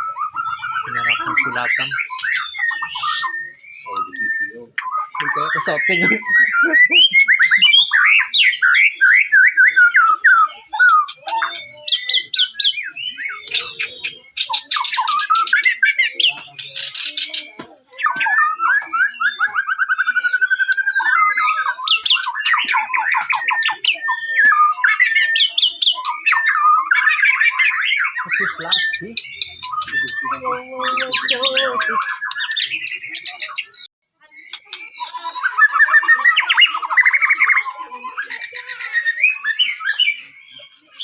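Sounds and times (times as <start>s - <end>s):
songbird whistling and trilling: 0.0s - 41.0s.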